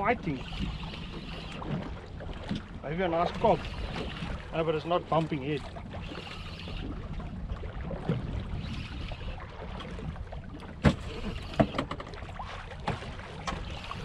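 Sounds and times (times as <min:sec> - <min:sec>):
water noise: 0:00.0 - 0:14.0
wind: 0:00.0 - 0:14.0.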